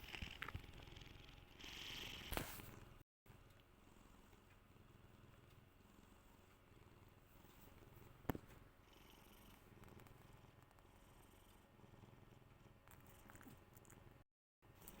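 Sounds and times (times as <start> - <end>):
cat purring: 0.0 - 14.2.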